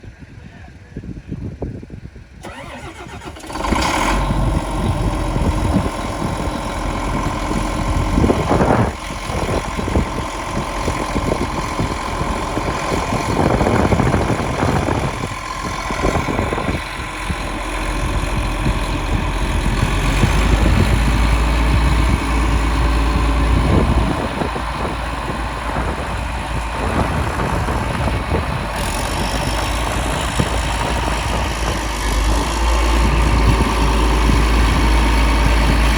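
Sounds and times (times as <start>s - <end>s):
tractor diesel engine idling: 2.1s - 35.9s.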